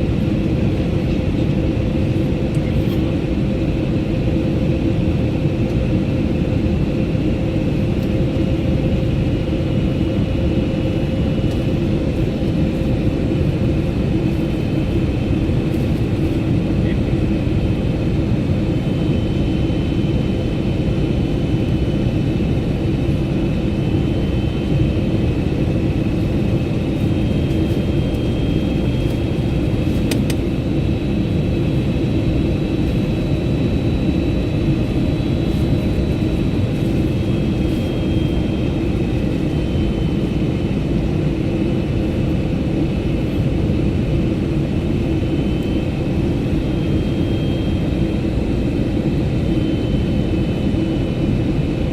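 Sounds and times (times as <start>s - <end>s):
airplane cabin roar: 0.0s - 51.9s
faint high engine whines: 0.0s - 51.9s.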